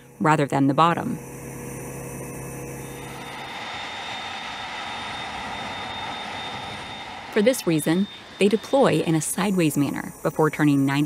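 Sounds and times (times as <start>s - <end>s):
low hum: 0.0s - 11.0s
jet engines rushing and whining: 1.6s - 11.0s.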